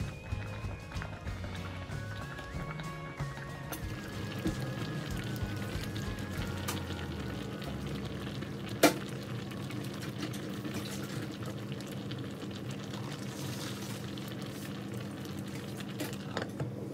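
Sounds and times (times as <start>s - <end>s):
pot bubbling: 0.0s - 16.9s.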